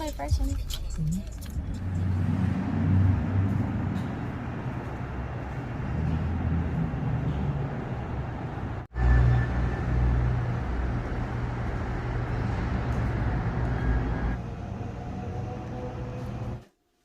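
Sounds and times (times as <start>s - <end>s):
road and engine noise in car: 0.0s - 16.6s.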